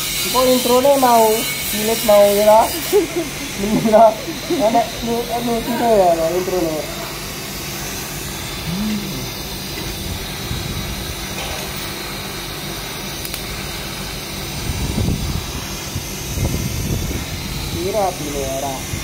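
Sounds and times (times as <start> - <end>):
welding arc hissing: 0.0 - 19.0.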